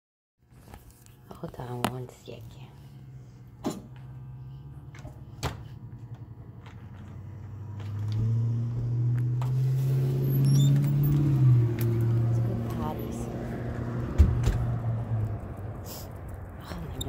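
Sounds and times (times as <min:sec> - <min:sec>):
vehicle engine humming: 0:00.5 - 0:17.0.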